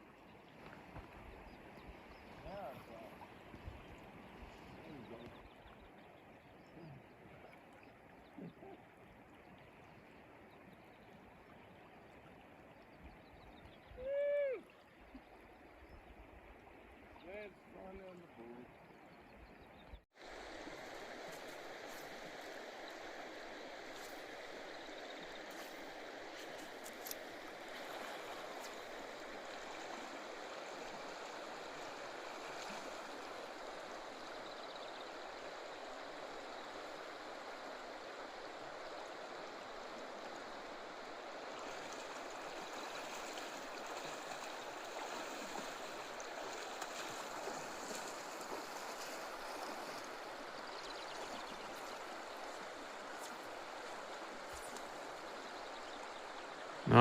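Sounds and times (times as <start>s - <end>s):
stream rushing and gurgling: 0.0s - 13.2s, 20.2s - 57.0s.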